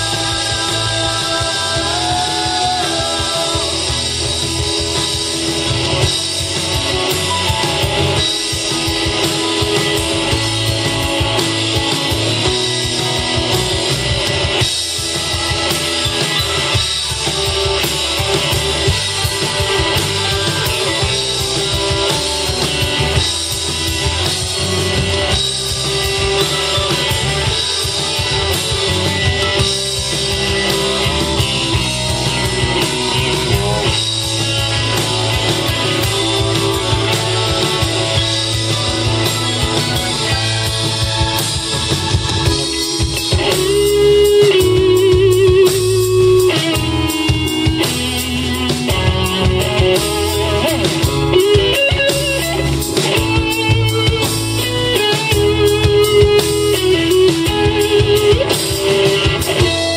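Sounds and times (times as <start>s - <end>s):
bass guitar: 0.0s - 59.9s
drum kit: 0.0s - 59.9s
electric guitar: 0.0s - 59.9s
keyboard: 0.0s - 59.9s.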